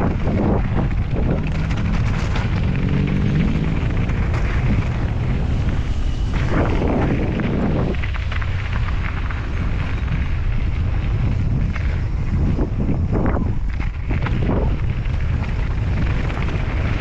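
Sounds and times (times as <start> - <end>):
bike rattling: 0.0 - 17.0
tyres crunching on gravel: 0.0 - 17.0
wind buffeting microphone: 0.0 - 17.0.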